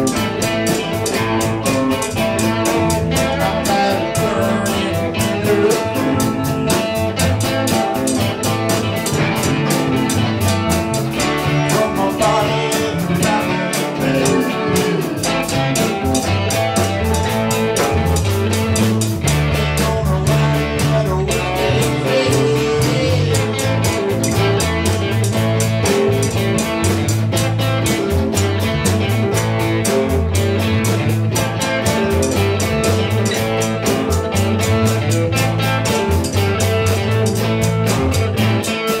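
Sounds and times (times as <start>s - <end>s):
drum kit beat: 0.0s - 39.0s
electric bass: 0.0s - 39.0s
electric guitars: 0.0s - 39.0s.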